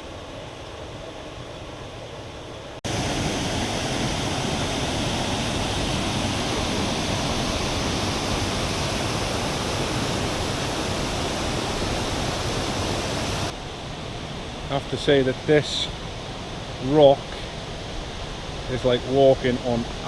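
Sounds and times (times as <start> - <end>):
waterfall roar: 2.8 - 20.0.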